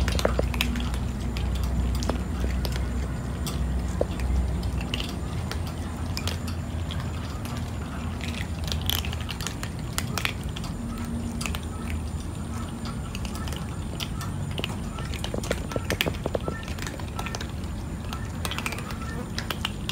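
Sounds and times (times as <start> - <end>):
cats crunching dry kibble: 0.0 - 19.9.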